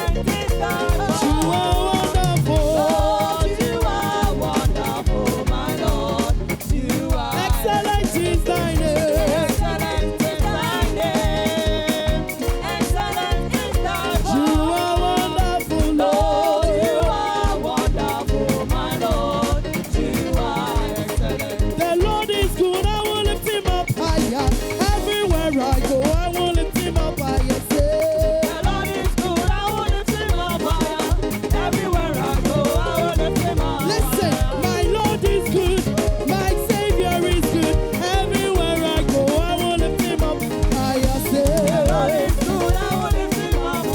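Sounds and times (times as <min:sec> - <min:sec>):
fast drum beat: 0:00.0 - 0:43.9
gospel praise music: 0:00.0 - 0:43.9
voices singing: 0:00.0 - 0:43.9.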